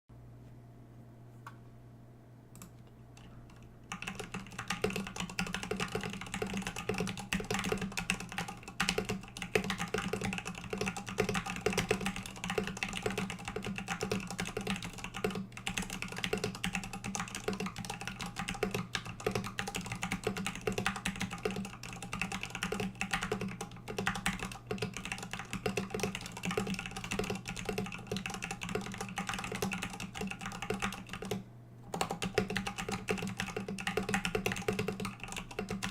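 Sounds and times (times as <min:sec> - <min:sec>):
mechanical keyboard typing: 0:02.6 - 0:35.9.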